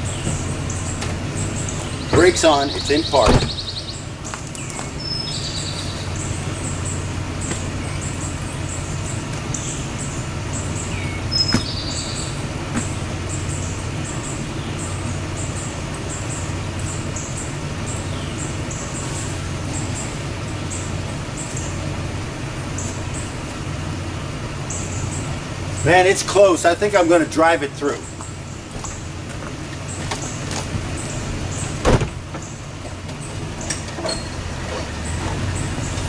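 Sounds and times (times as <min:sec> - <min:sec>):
birds chirping: 0:00.0 - 0:36.0
pickup truck idling: 0:00.0 - 0:36.0.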